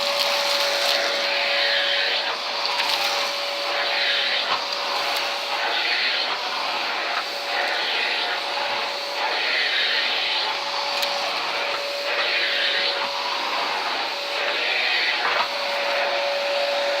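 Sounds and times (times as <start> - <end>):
small vacuum cleaner running: 0.0 - 17.0.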